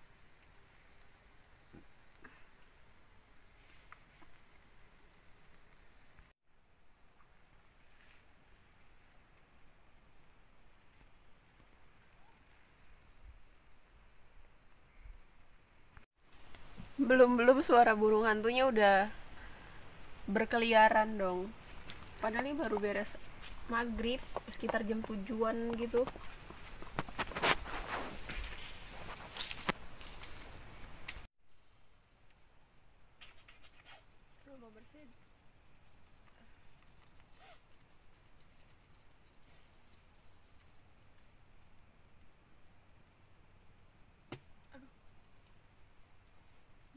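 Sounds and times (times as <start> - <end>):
night insects chorus: 0.0 - 6.4, 7.2 - 31.3, 32.3 - 46.9.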